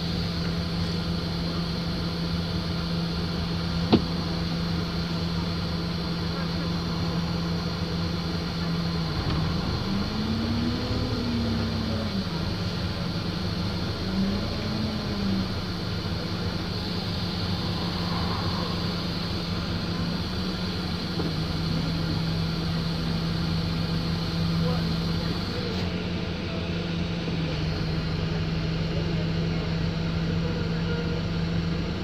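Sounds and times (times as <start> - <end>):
bus engine revving: 0.0 - 31.5.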